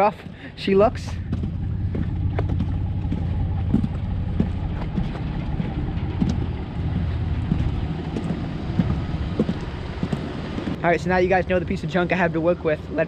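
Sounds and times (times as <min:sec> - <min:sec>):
footsteps crunching on gravel: 0:00.0 - 0:10.8
steady low hum: 0:00.0 - 0:13.0.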